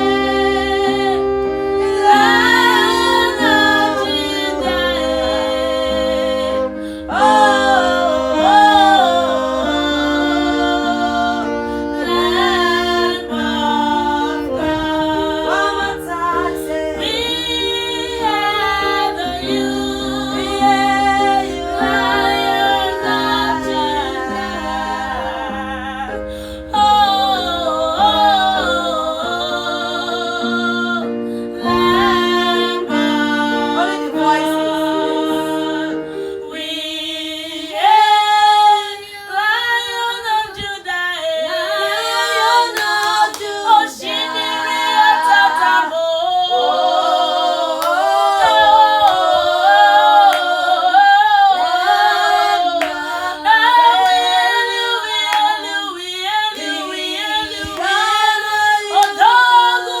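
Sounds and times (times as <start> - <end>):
women singing in harmony: 0.0 - 60.0.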